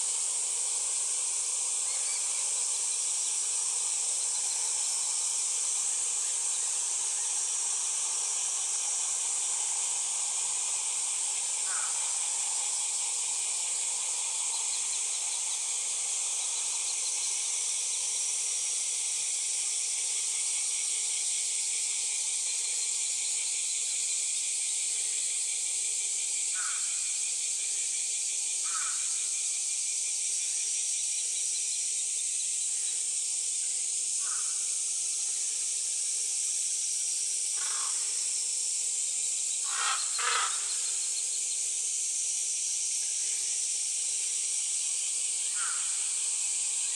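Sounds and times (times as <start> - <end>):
high-pitched outdoor hiss: 0.0 - 46.9.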